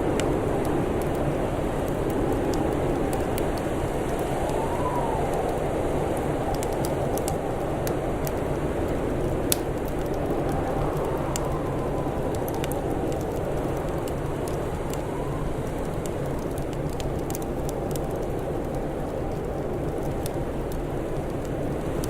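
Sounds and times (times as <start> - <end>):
low blizzard wind roar: 0.0 - 22.0
wind whistling: 0.0 - 22.0
wood fire crackling and popping: 0.0 - 22.0.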